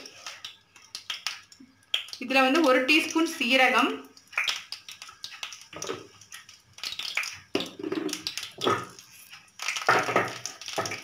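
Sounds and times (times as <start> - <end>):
seeds crackling in hot oil: 0.0 - 11.0.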